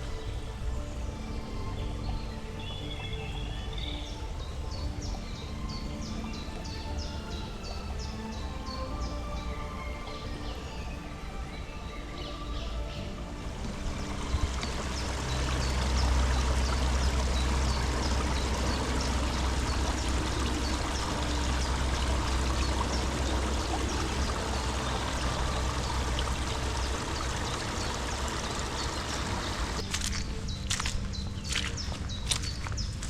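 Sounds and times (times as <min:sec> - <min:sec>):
bird chirping: 0:00.0 - 0:33.0
low rumble: 0:00.0 - 0:33.0
rushing water: 0:00.0 - 0:33.0.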